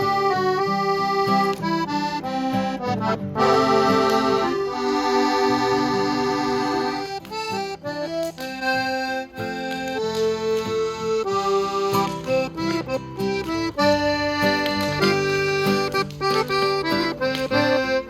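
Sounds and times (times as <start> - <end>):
accordion melody: 0.0 - 18.0.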